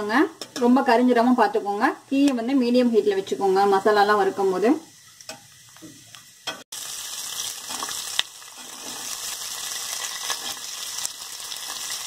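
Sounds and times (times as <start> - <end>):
spices and oil sizzling: 0.0 - 12.0.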